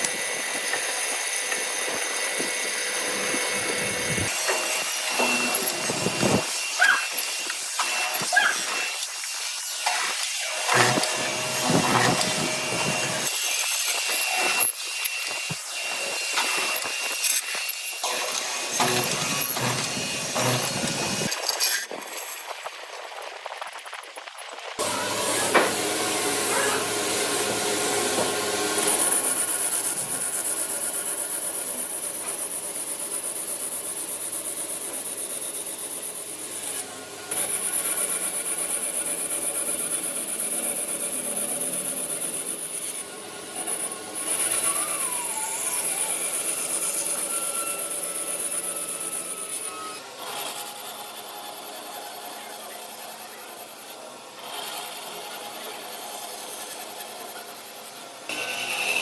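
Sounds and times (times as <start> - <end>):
wood lathe running: 0.0 - 21.3, 24.8 - 53.0, 53.8 - 59.0
tool scraping spinning wood: 0.0 - 22.3, 24.8 - 51.0.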